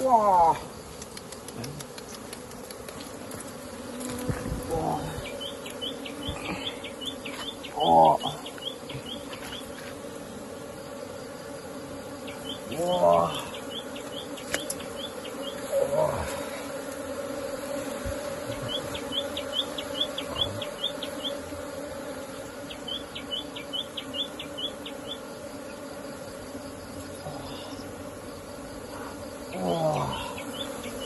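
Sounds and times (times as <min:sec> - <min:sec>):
honeybee colony buzzing: 0:00.0 - 0:31.0.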